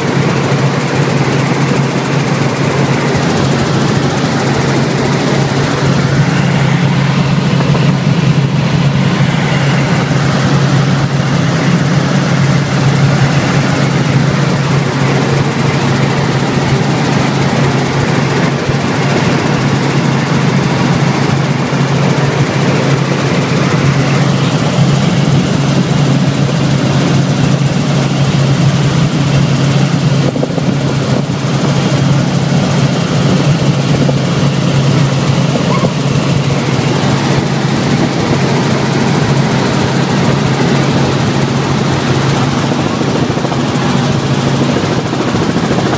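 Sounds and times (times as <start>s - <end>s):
helicopter engine and rotors drone: 0.0s - 45.9s.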